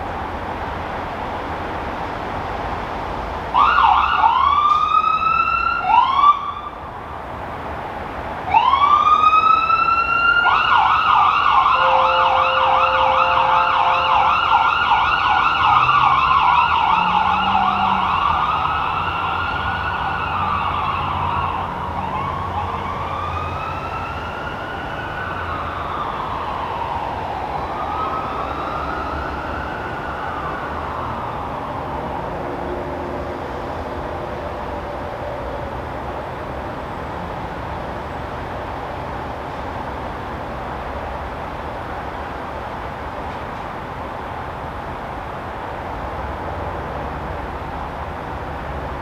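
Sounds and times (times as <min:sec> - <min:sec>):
emergency vehicle siren: 0:00.0 - 0:49.0.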